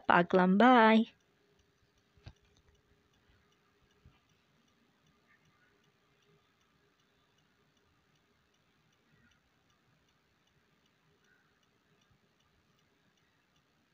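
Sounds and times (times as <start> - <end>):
faint regular ticking: 0.0 - 13.9.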